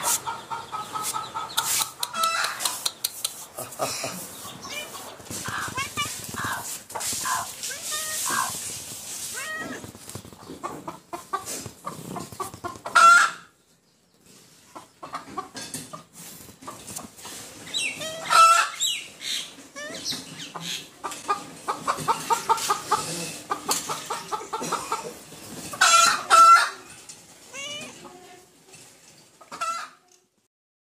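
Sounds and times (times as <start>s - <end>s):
hens clucking and calling: 0.0s - 13.6s, 14.4s - 28.5s, 29.3s - 30.1s.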